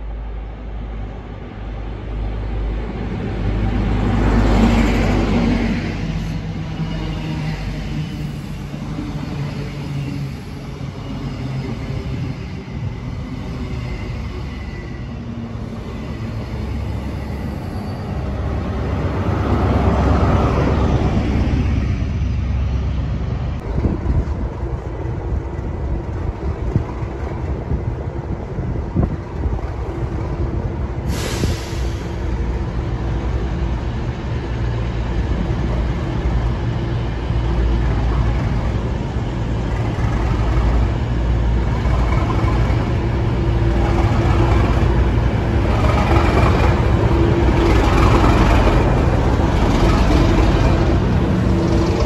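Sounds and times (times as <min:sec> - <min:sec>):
departing train: 0:00.0 - 0:52.0
diesel locomotive engine drone: 0:00.0 - 0:52.0.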